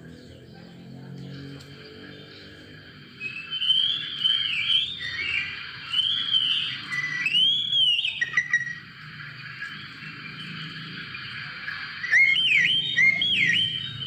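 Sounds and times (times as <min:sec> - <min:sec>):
bird whistled song: 0:01.7 - 0:14.0.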